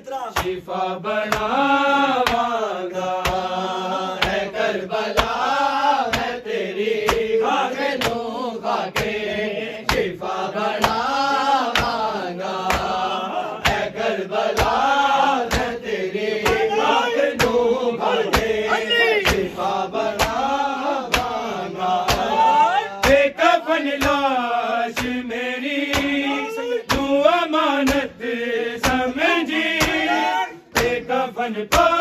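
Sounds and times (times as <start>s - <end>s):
men chanting: 0.0s - 32.0s
hands slapping chests: 0.3s - 31.1s, 31.7s - 32.0s.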